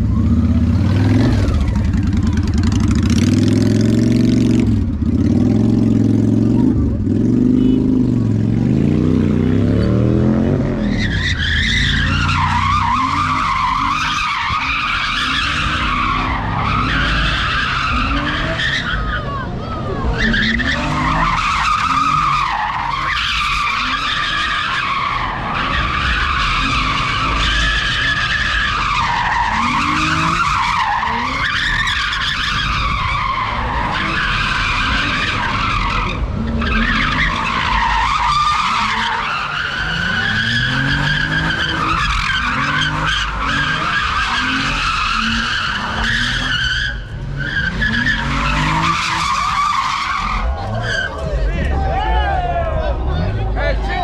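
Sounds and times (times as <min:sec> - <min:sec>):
car engine revving: 0:00.0 - 0:51.7
tires screeching: 0:00.0 - 0:54.0.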